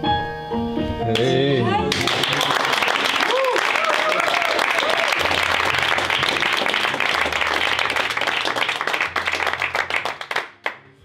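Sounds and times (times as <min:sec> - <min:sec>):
audience applauding: 0:01.9 - 0:10.8.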